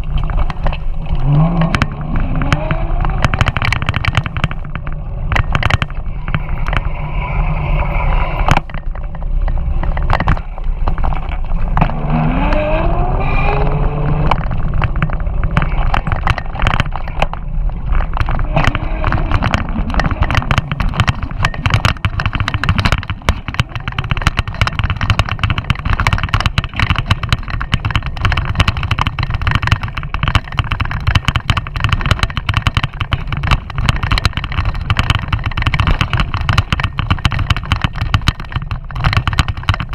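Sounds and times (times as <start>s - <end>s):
bike rattling on dirt trail: 0.0s - 39.9s
wind rumble on microphone: 0.0s - 39.9s.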